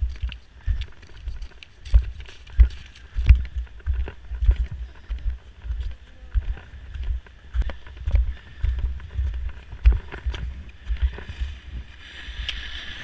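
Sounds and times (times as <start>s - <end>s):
boot footsteps crunching in snow: 0.0s - 13.0s.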